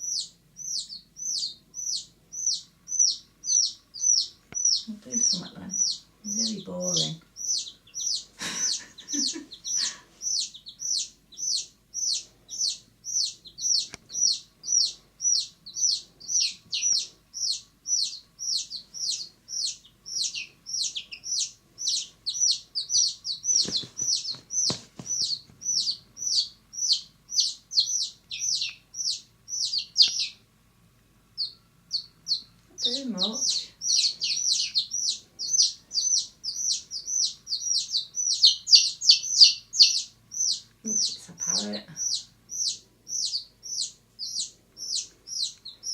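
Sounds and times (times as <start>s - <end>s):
chick peeping: 0.0s - 30.5s, 31.3s - 45.9s.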